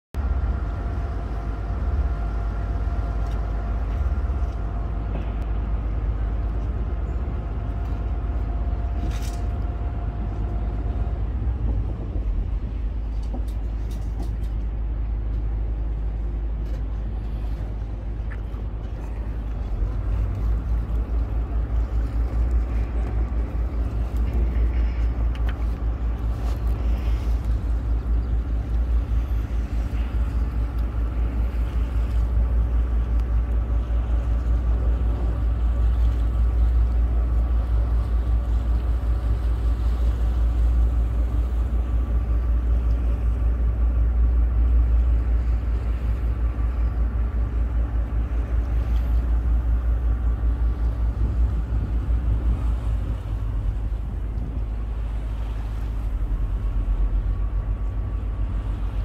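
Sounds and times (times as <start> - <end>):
engine rumble: 0.1 - 59.0.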